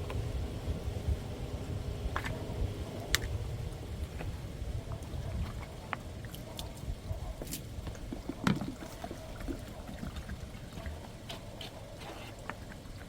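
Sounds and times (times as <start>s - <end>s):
low rumble of microphone handling: 0.0s - 13.0s.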